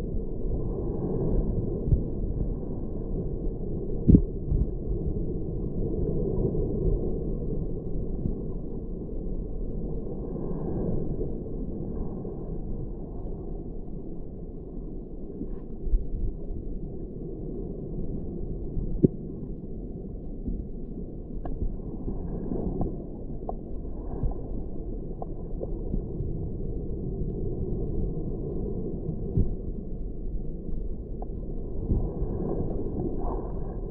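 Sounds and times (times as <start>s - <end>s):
underwater rumble of seawater: 0.0s - 33.9s.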